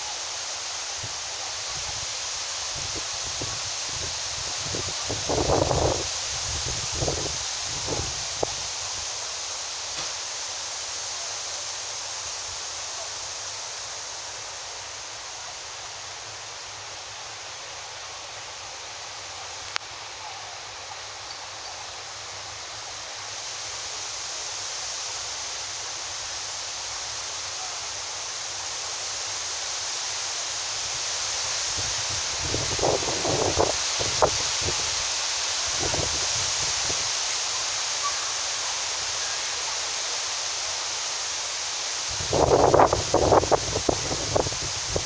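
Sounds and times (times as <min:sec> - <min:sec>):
wind through tree leaves: 0:00.0 - 0:45.0.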